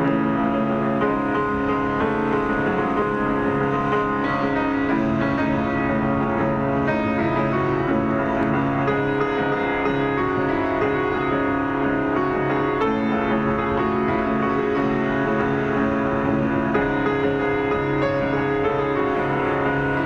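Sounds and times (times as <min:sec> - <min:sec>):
piano background music: 0:00.0 - 0:20.0.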